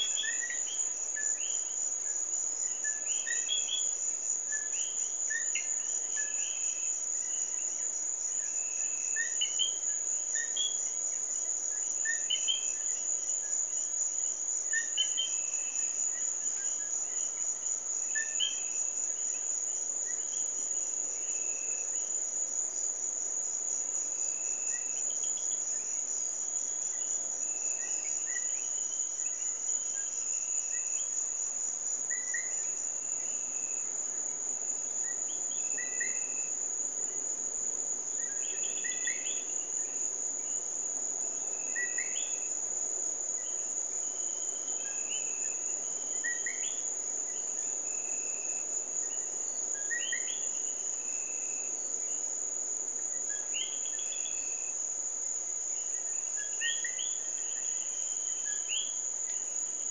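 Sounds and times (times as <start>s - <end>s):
high-pitched insect trill: 0.0s - 59.9s.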